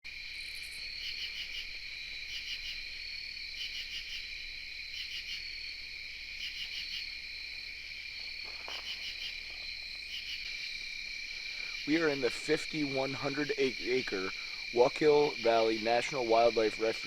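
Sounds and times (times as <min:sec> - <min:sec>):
high insect trill: 0:00.1 - 0:17.0
insect pulsed chirps: 0:00.1 - 0:17.0.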